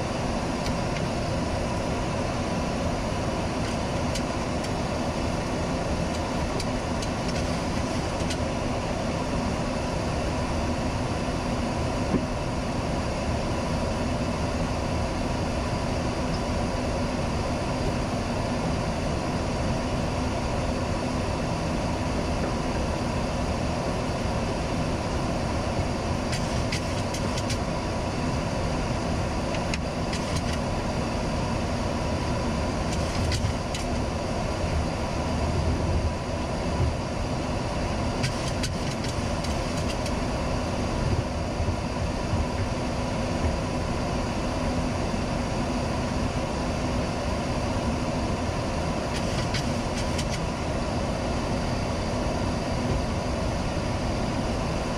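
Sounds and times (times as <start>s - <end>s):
even hum: 0.0s - 54.9s.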